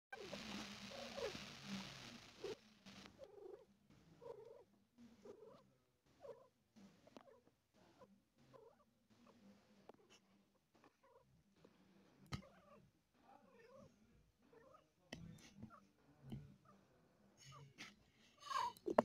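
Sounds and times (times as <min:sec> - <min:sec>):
cat purring: 0:00.1 - 0:19.0.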